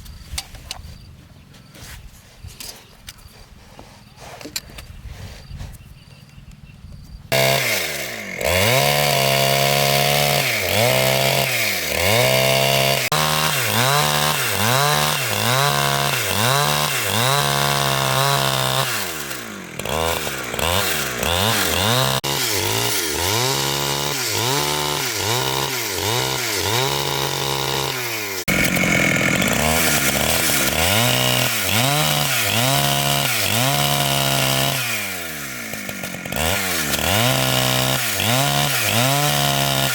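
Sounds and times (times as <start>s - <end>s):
chainsaw revving and cutting wood: 7.3s - 39.9s.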